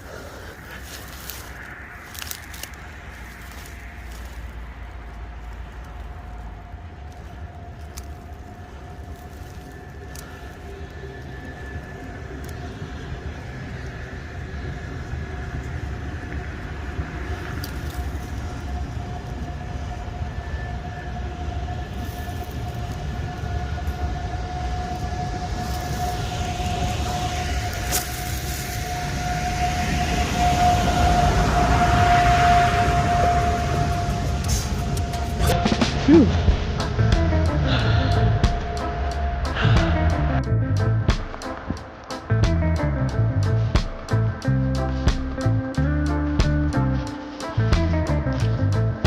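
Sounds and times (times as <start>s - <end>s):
train rumbling and whining: 0.0s - 49.0s.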